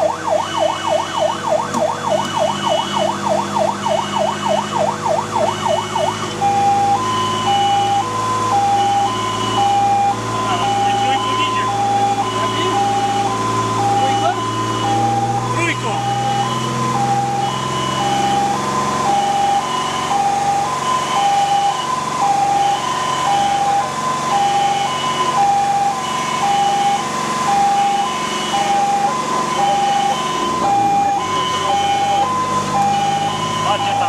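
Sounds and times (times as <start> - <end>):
fire engine two-tone siren: 0.0 - 34.0
truck engine running: 0.0 - 34.0.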